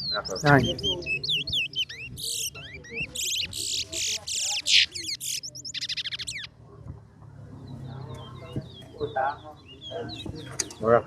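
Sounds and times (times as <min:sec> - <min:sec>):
finch singing: 0:00.0 - 0:06.6, 0:07.6 - 0:11.0.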